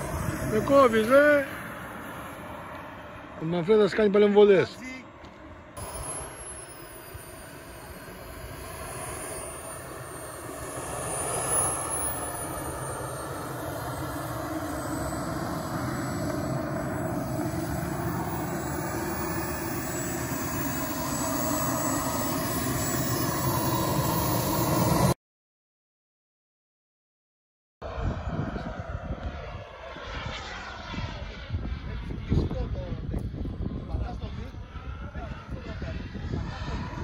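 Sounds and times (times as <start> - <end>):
jet turbine engine whine: 0.0 - 25.2, 27.8 - 37.0.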